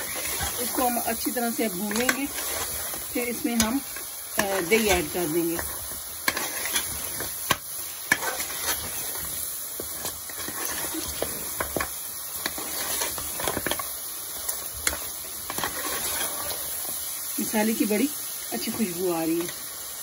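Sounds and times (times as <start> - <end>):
metal spoon scraping a pot: 0.0 - 7.4, 8.0 - 16.8
meat sizzling in a pot: 0.0 - 20.0.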